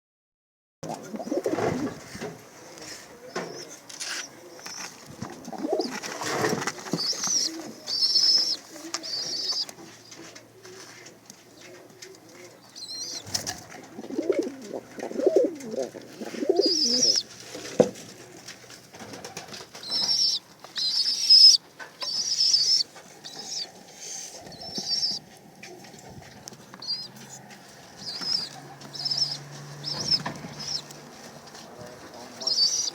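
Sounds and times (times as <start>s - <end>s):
pigeons cooing: 0.8s - 17.3s, 18.1s - 32.9s.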